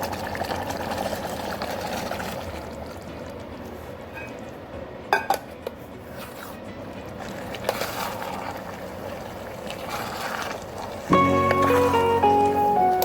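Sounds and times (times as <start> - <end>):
wet sloshing of stirred food: 0.0 - 4.8, 5.5 - 12.1.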